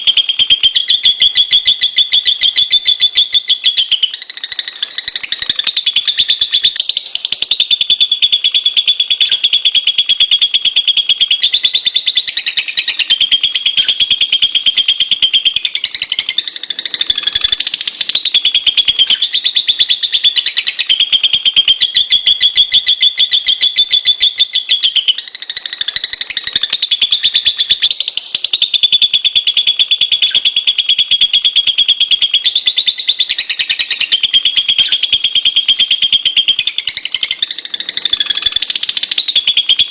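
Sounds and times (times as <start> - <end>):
lovebird chattering: 0.0 - 39.9.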